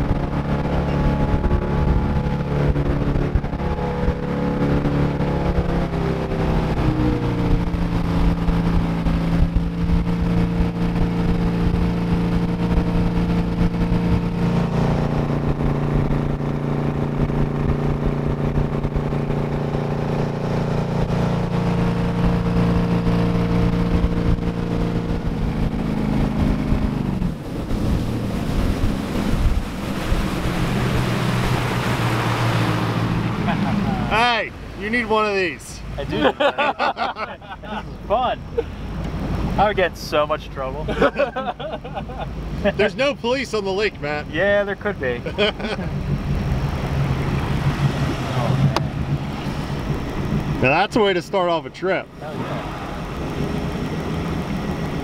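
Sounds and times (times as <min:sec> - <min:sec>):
boat engine running hard: 0:00.0 - 0:55.0
rushing wind and water: 0:00.0 - 0:55.0.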